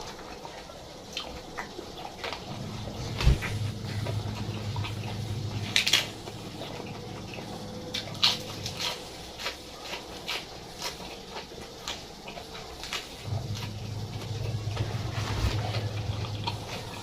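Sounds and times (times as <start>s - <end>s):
chewing and mouth clicks: 0.0s - 17.0s.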